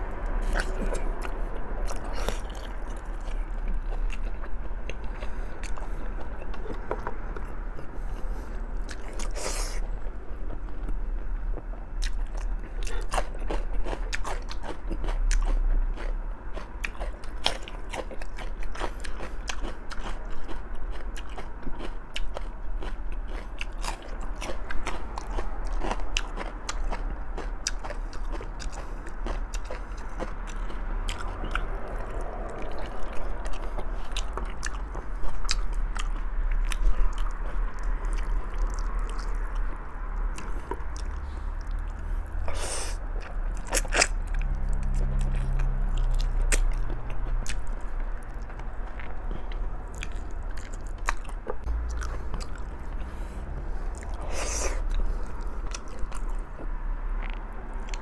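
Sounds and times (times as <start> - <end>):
person chewing wetly: 0.2 - 9.9, 10.5 - 58.0.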